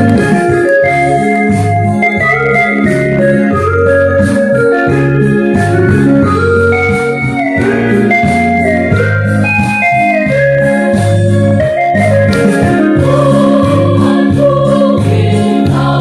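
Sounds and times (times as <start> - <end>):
electronic organ chords: 0.0 - 16.0
stepping bass line: 0.0 - 16.0.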